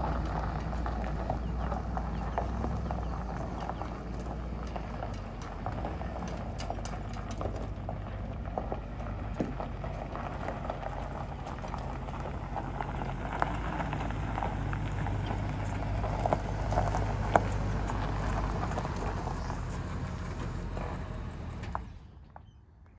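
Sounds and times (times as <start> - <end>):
truck engine humming: 0.0 - 22.5
tyres crunching on gravel: 0.0 - 22.6.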